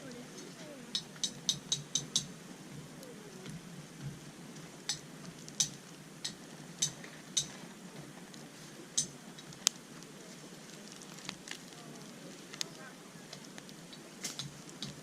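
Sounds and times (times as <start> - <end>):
campfire crackling: 0.0 - 15.0
faint steady background noise: 0.0 - 15.0.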